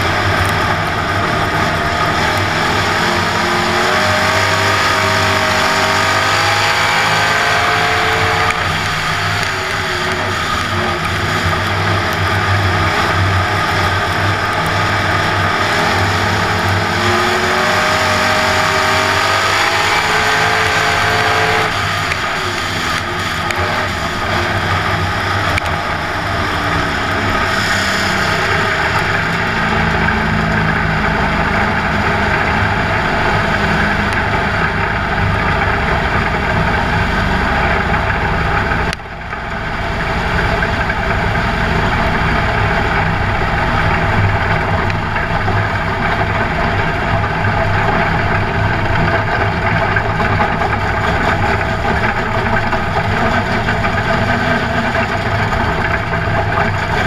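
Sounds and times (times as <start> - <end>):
race car engine running: 0.0 - 57.0.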